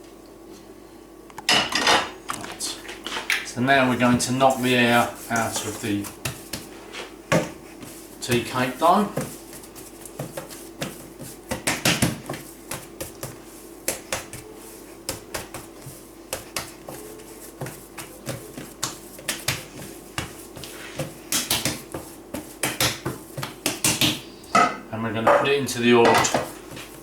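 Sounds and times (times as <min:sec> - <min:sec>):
steady low hum: 0:00.0 - 0:27.0
hands kneading dough: 0:02.4 - 0:24.4, 0:25.6 - 0:27.0.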